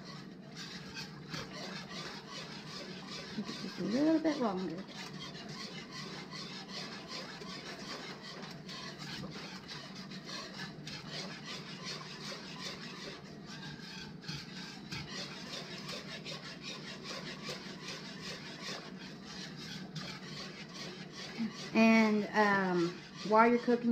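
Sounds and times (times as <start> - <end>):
whisk scraping saucepan: 0.0 - 23.9.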